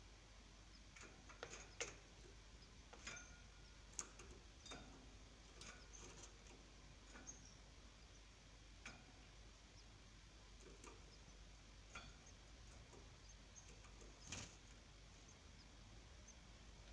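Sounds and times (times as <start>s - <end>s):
faint small clicks and ticks: 0.7s - 8.2s, 10.6s - 16.9s.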